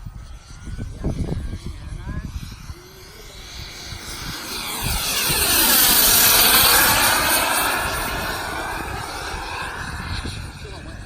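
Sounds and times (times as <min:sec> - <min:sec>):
model jet turbine engine: 0:00.0 - 0:11.0.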